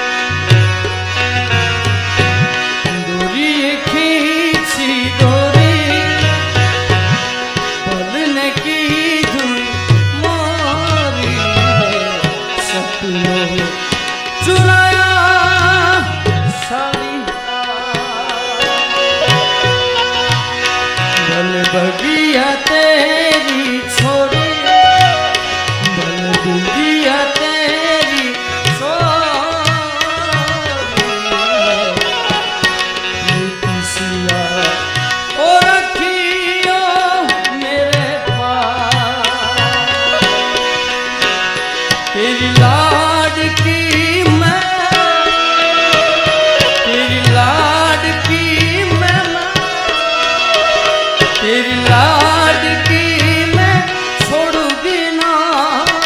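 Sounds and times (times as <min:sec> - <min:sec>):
harmonium: 0:00.0 - 0:56.0
man singing: 0:00.0 - 0:56.0
tabla drumming: 0:00.0 - 0:56.0.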